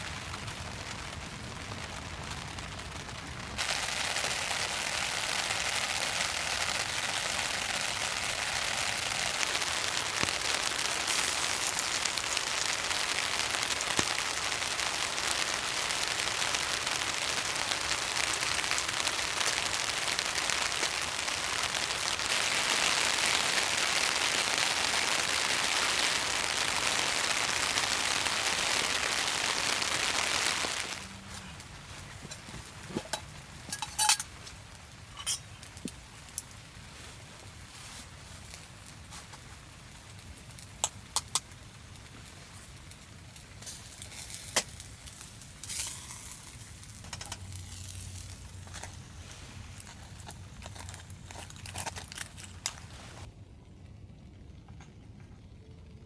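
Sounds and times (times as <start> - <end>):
rain falling: 0.0 - 53.4.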